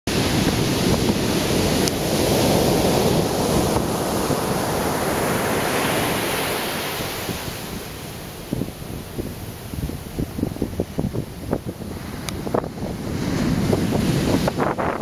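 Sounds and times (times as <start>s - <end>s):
heavy surf breaking on beach: 0.1s - 15.0s.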